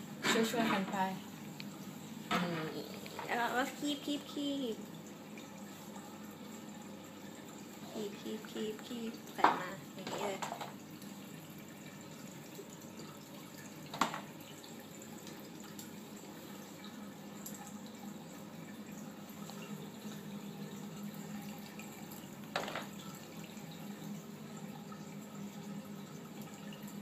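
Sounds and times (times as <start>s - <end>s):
water running into a sink: 0.0s - 27.0s.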